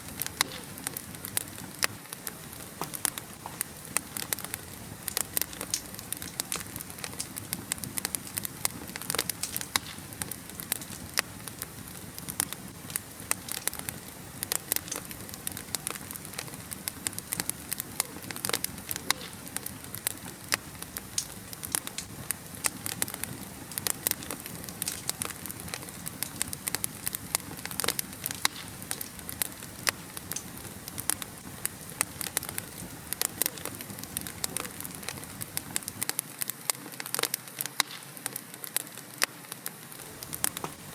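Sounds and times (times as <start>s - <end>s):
soft fire hiss: 0.0s - 40.9s
wood fire crackling and popping: 0.0s - 40.9s.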